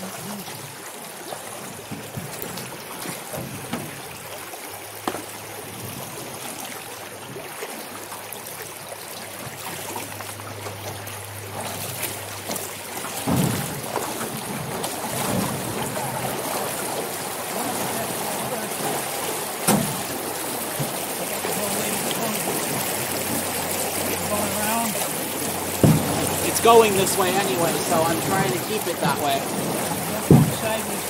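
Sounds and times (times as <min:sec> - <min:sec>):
water trickling over rocks: 0:00.0 - 0:31.0.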